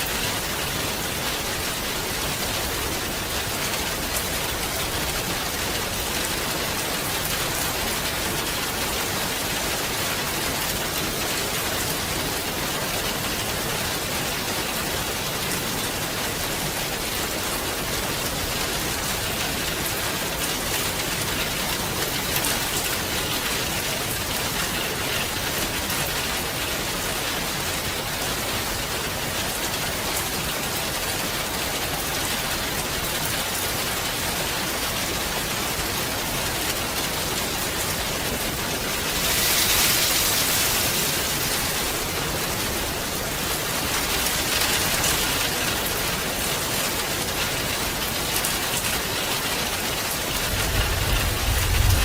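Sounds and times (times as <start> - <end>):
rain pattering on surfaces: 0.0 - 52.0.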